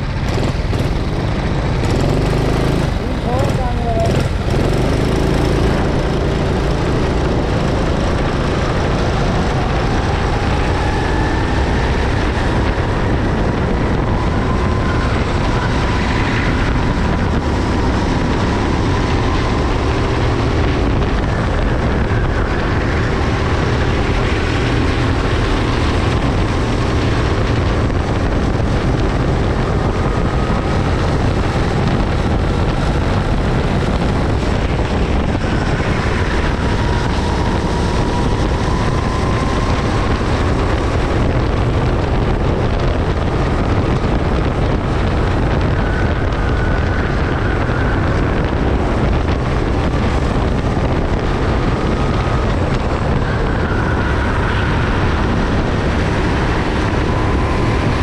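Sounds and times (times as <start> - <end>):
go-kart engine racing: 0.0 - 58.0
wind rumbling on microphone: 0.0 - 58.0.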